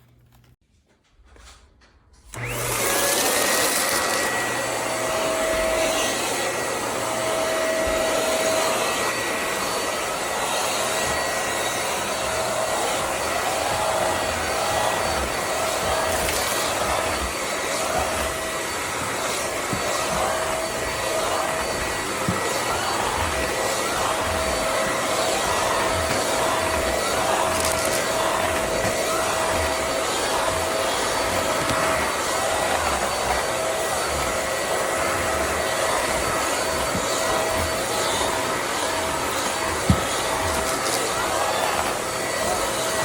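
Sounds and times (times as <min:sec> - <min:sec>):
vacuum cleaner motor whine: 0:02.3 - 0:43.0.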